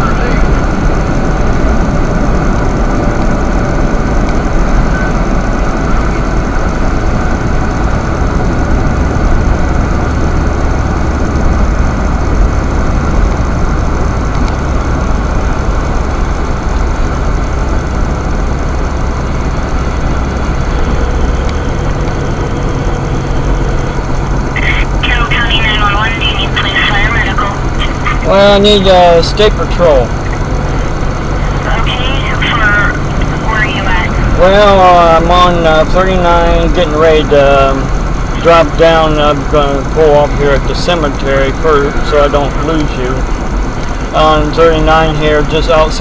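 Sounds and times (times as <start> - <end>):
low engine hum: 0.0 - 46.0.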